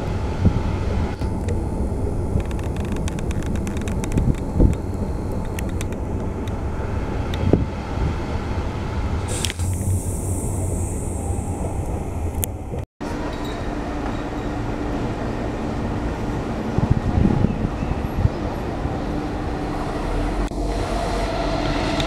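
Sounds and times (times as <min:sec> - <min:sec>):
approaching train rumble: 0:00.0 - 0:22.0
train rumbling on board: 0:00.0 - 0:22.0.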